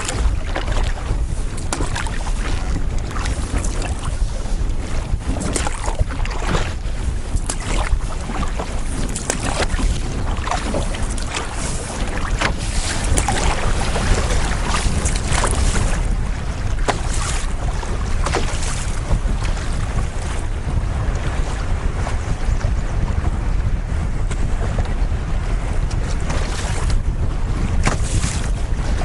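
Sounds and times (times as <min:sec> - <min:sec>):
water slapping against canoe: 0:00.0 - 0:29.0
wind buffeting microphone: 0:00.0 - 0:29.0.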